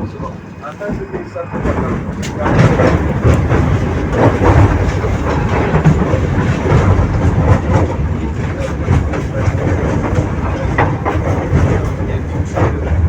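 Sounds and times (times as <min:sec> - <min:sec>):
rumble of wheels on rail: 0:00.0 - 0:13.0
clicks over rail joints: 0:00.2 - 0:13.0.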